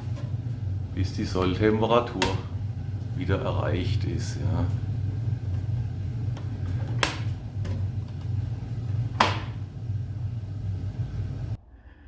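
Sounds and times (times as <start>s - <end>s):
gas boiler burner humming: 0.0s - 11.6s.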